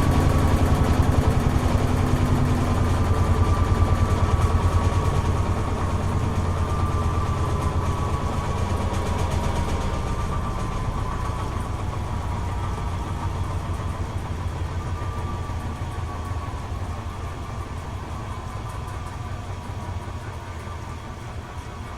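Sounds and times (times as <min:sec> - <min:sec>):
washing machine spinning: 0:00.0 - 0:21.9.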